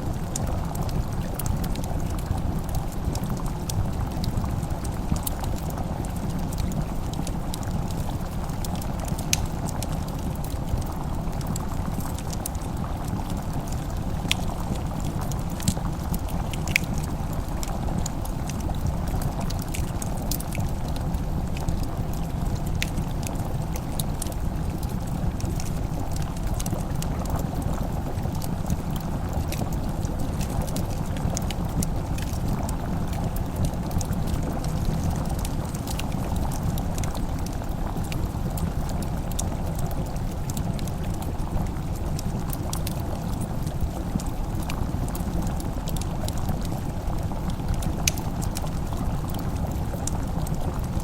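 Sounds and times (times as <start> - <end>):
fireplace crackling: 0.1 - 51.0.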